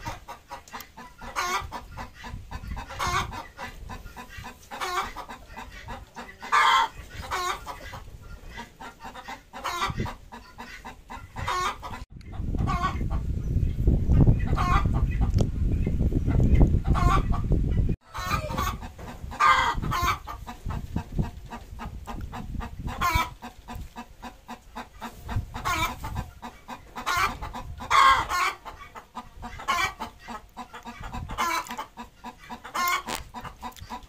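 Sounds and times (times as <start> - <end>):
hen clucking: 0.0 - 34.0.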